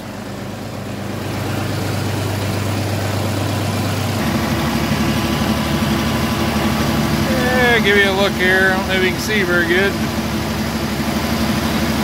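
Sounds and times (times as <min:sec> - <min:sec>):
busier engine note: 0:00.0 - 0:12.0
tractor diesel engine running: 0:00.0 - 0:12.0.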